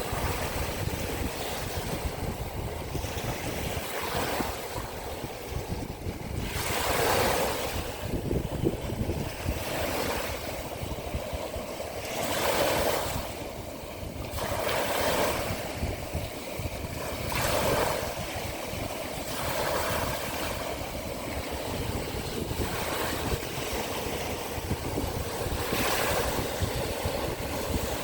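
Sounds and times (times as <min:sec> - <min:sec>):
small sea waves washing ashore: 0:00.0 - 0:28.0
wind rumble on microphone: 0:00.0 - 0:28.0.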